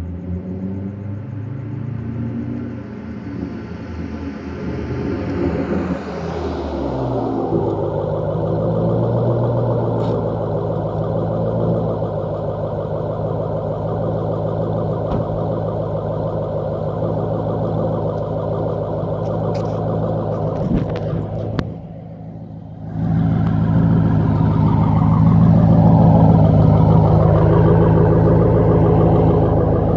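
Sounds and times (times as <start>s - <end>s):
car engine running: 0.0s - 29.9s.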